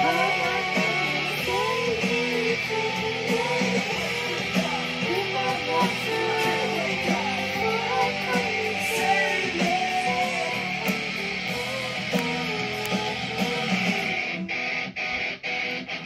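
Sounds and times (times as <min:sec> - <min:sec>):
guitar-led song: 0:00.0 - 0:16.0.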